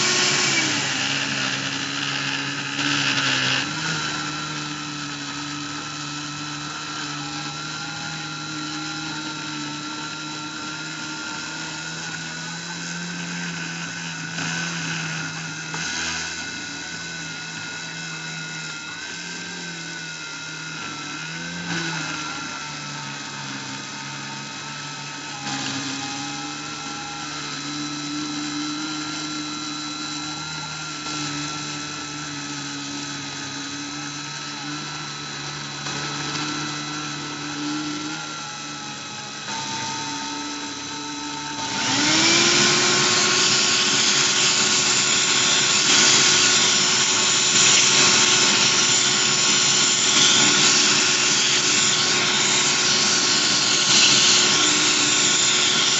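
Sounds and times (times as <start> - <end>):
loud motor spinning up: 0.0 - 55.9
stepping machine motor tones: 0.0 - 55.9.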